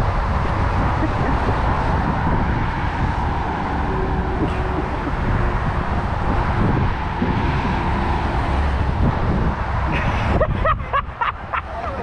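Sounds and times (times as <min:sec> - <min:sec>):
traffic rumble: 0:00.0 - 0:12.0
wind rushing over microphone: 0:00.0 - 0:12.0.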